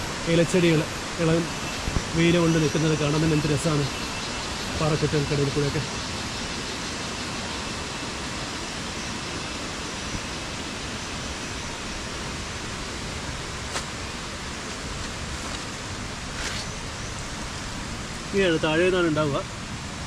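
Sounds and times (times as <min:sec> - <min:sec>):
steady forest rushing noise: 0:00.0 - 0:20.0.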